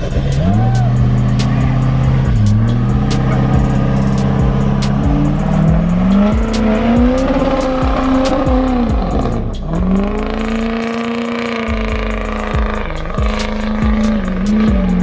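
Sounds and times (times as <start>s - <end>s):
diesel engine revving high: 0.0s - 15.0s.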